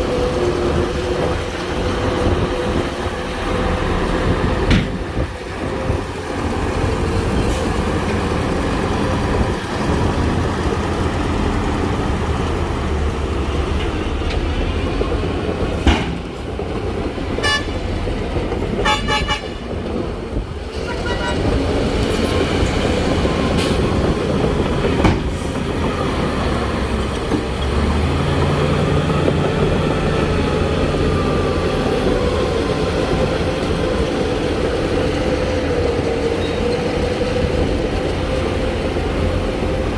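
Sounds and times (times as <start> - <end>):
diesel earthmoving machinery running: 0.0 - 39.9.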